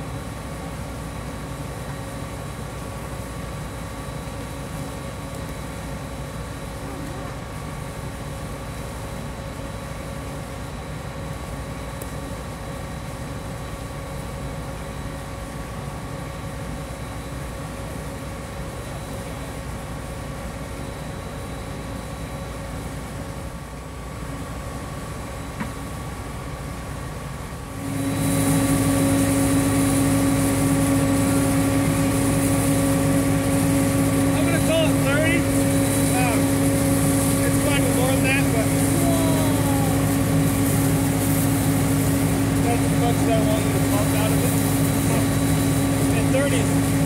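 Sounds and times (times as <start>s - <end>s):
drilling rig machine hum: 0.0s - 47.0s.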